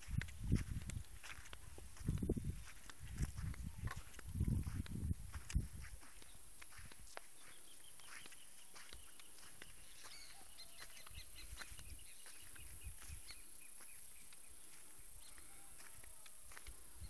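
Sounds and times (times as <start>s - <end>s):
soft footsteps on rock: 0.0s - 16.9s
small birds chirping: 0.0s - 17.0s.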